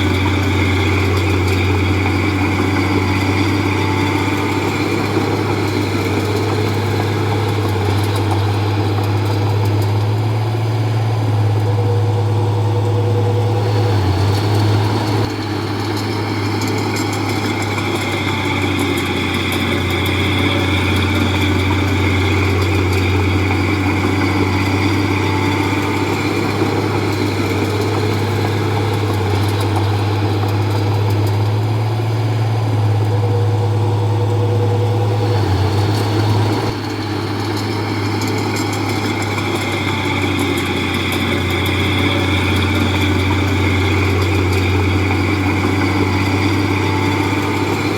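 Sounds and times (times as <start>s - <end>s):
heavy diesel engine droning: 0.0s - 47.9s.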